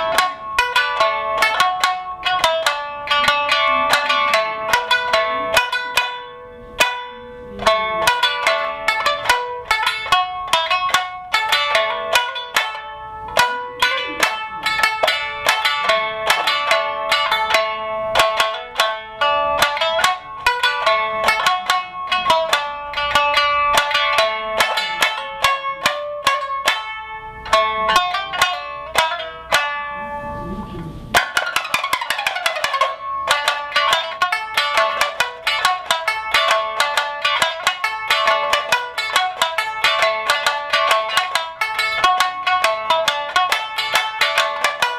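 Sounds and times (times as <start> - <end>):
shamisen plucked melody: 0.0 - 44.9.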